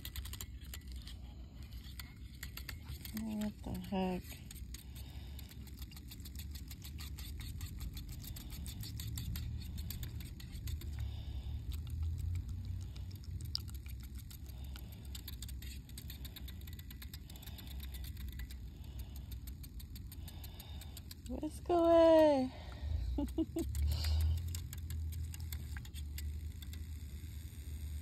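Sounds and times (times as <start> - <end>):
frother rattling ticks: 0.0 - 22.3, 23.2 - 27.2
milk frother humming: 0.0 - 28.0.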